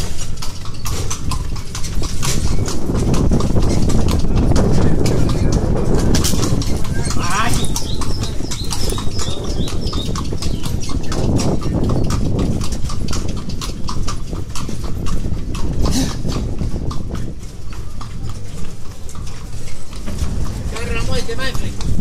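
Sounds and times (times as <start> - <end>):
cart rumbling: 0.0 - 22.0
horse hooves trotting on road: 0.0 - 22.0.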